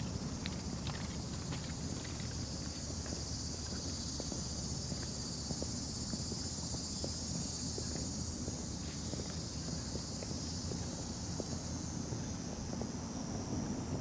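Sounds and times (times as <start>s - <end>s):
faint footsteps on a path: 0.0s - 14.0s
insects buzzing: 0.0s - 14.0s.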